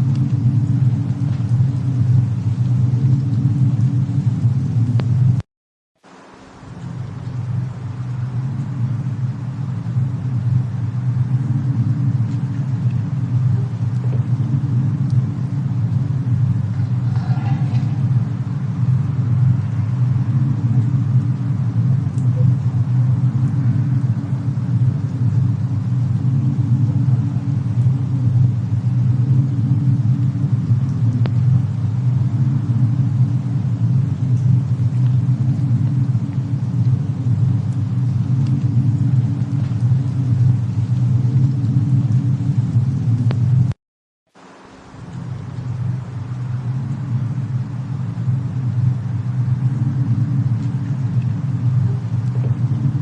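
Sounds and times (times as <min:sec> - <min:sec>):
faint crackles: 0:00.0 - 0:05.4, 0:06.0 - 0:43.8, 0:44.4 - 0:53.0
low rumble of fireplace and snowstorm: 0:00.0 - 0:53.0.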